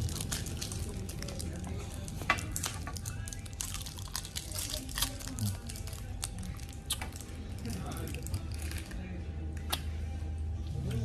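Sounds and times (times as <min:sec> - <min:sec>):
wrappers crinkling: 0:00.0 - 0:09.0.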